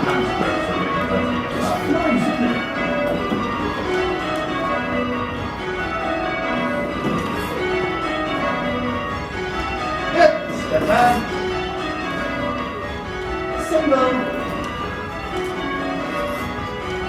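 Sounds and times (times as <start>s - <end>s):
church bells change ringing: 0.0s - 17.0s.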